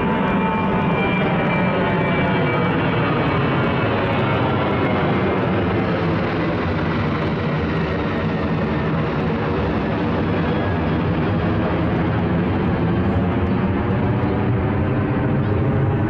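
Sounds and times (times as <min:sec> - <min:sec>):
jet engines rumbling overhead: 0:00.0 - 0:16.0.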